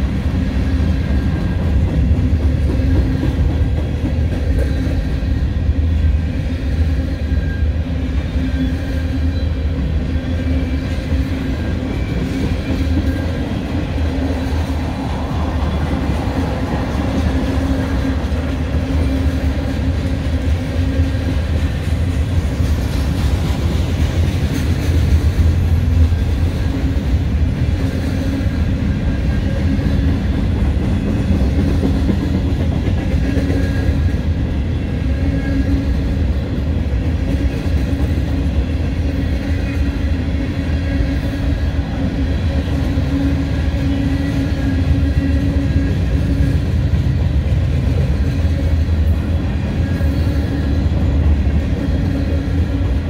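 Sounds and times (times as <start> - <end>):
freight train cars rolling: 0.0 - 53.0.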